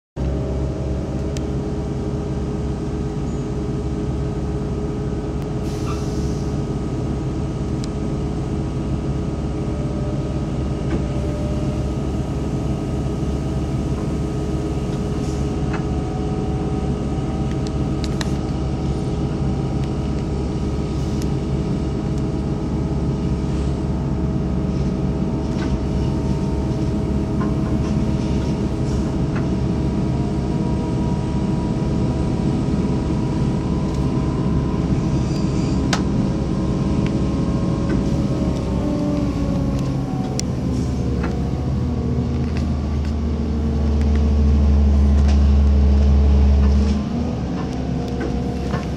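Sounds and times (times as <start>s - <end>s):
vehicle interior drone: 0.2s - 48.9s.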